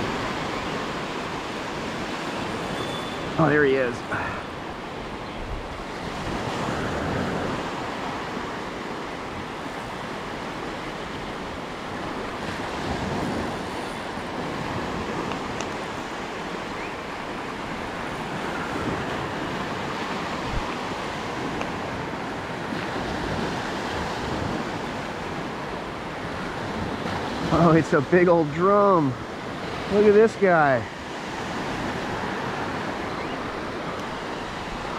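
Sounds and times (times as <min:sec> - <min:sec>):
small waves breaking on beach: 0:00.0 - 0:34.9.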